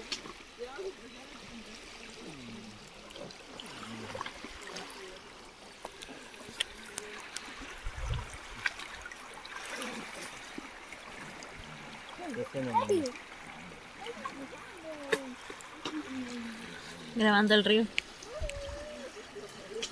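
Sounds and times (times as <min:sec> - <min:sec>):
small splashes in water: 0:00.0 - 0:17.2
river water flowing: 0:00.0 - 0:19.9.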